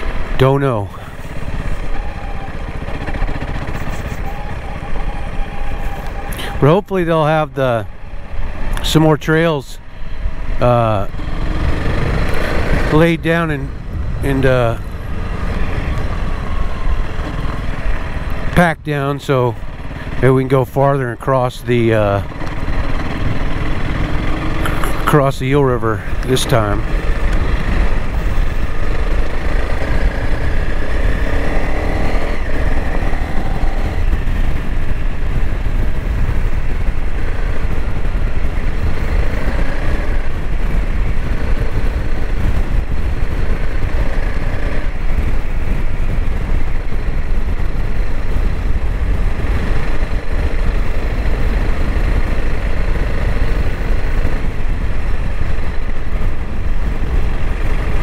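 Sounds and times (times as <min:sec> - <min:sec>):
constant low rumble: 0:00.0 - 0:58.0
motorcycle engine running: 0:00.0 - 0:58.0.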